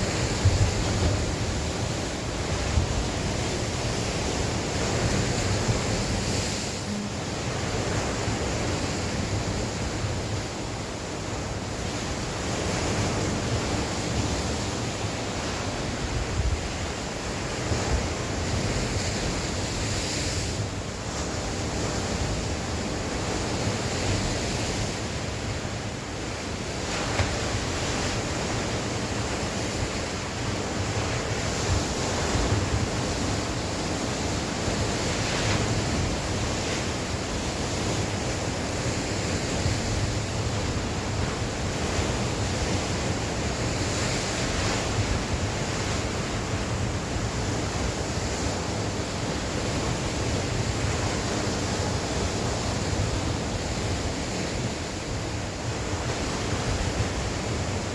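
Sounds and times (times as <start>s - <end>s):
sea waves washing onto shore: 0.0s - 57.9s
wind blowing on microphone: 0.0s - 57.9s.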